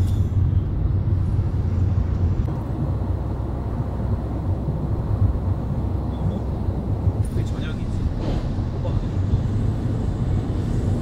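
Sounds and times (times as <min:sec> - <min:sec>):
low rumble of engine and road: 0:00.0 - 0:11.0.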